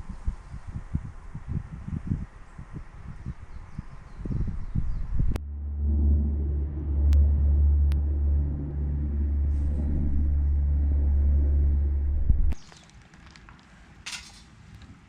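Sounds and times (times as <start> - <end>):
faint hum: 0.0 - 12.6
low engine rumble: 0.0 - 15.0.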